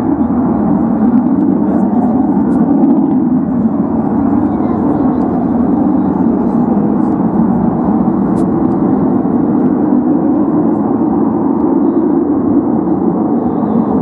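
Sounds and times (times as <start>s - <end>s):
fighter jet engines droning: 0.0s - 14.0s.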